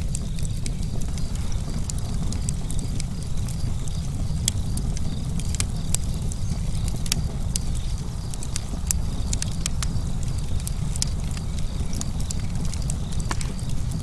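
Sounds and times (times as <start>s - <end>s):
burning wood crackling and popping: 0.0s - 14.0s
steady low rumble: 0.0s - 14.0s.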